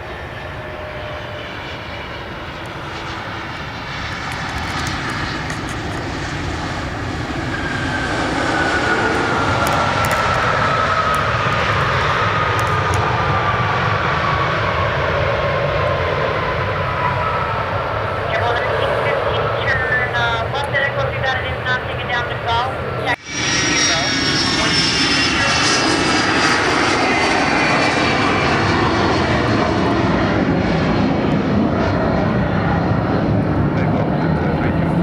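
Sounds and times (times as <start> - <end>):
airliner engines rumbling: 0.0 - 35.0
descending engine whine: 0.0 - 35.0.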